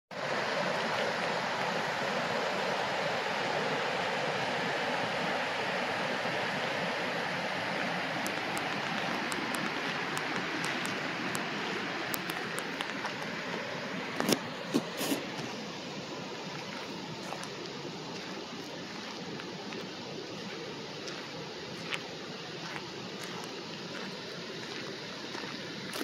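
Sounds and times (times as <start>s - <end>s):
creek rushing over rocks: 0.1s - 26.0s.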